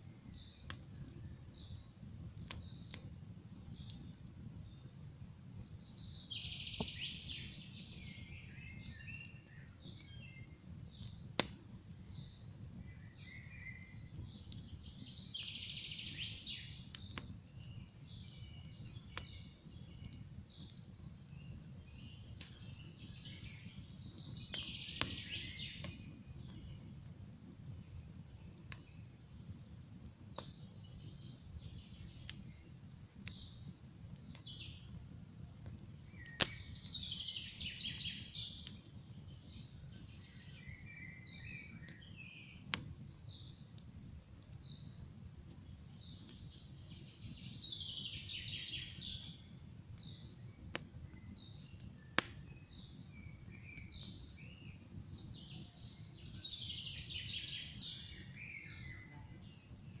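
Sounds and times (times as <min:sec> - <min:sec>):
campfire crackling and popping: 0:00.0 - 1:00.0
songbirds singing: 0:00.1 - 1:00.0.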